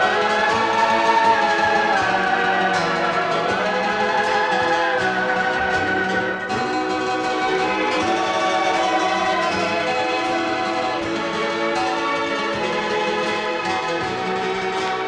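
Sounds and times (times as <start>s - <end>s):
instrumental country music: 0.0s - 15.0s.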